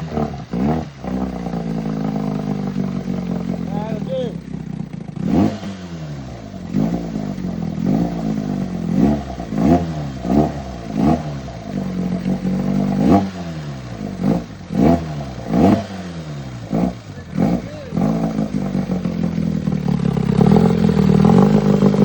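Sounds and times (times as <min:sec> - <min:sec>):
outboard motor revving: 0:00.0 - 0:22.0.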